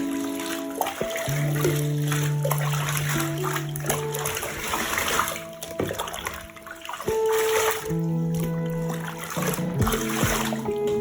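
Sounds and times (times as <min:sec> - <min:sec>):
background music with held notes: 0:00.0 - 0:11.0
water running and splashing: 0:00.0 - 0:11.0.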